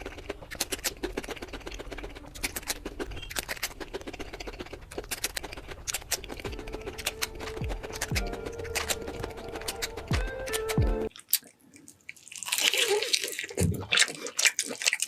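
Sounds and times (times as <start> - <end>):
wet chewing clicks and smacks: 0.0 - 15.0.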